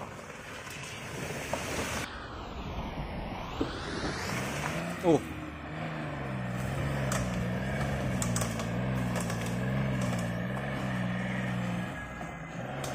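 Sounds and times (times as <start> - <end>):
truck engine running at low revs: 2.0 - 12.9.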